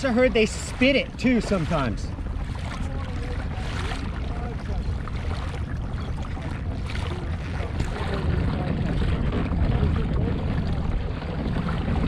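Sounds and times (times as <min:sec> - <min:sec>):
water lapping around kayak: 0:00.0 - 0:12.0
wind buffeting microphone: 0:00.0 - 0:12.0.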